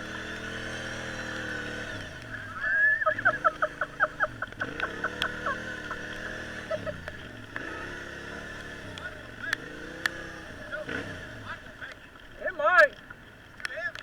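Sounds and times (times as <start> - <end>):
engine running: 0.0 - 13.6.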